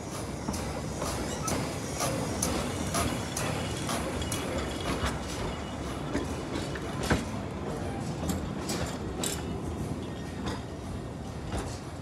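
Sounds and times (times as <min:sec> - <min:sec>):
wheels clicking on track: 0:00.0 - 0:10.8
railway carriages rumbling: 0:00.0 - 0:12.0.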